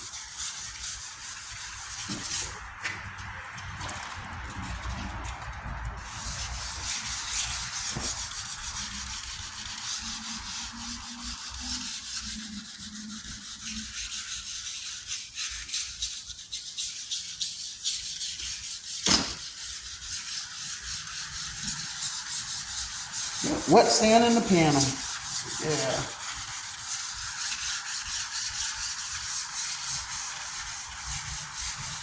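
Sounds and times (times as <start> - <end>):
sandpaper rubbing on metal panel: 0.0 - 32.0.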